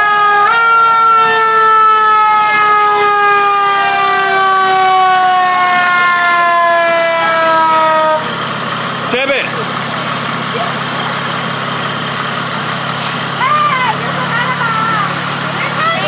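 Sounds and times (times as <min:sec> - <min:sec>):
fire engine siren wailing: 0:00.0 - 0:16.0.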